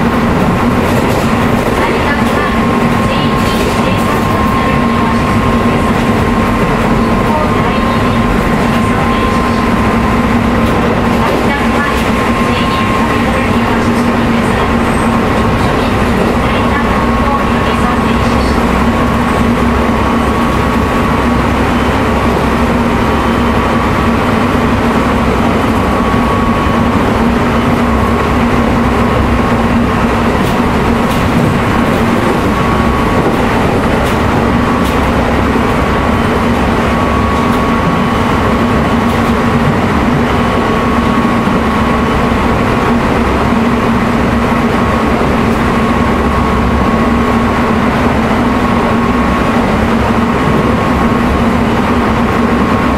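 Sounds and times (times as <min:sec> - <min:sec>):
electric train motor whine: 0:00.0 - 0:52.9
wheels rumbling on rail: 0:00.0 - 0:52.9.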